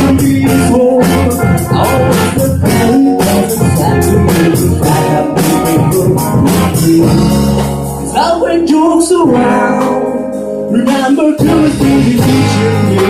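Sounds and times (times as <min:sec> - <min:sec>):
drum and cymbal hits: 0:00.0 - 0:08.3, 0:09.3 - 0:13.0
electric guitar: 0:00.0 - 0:13.0.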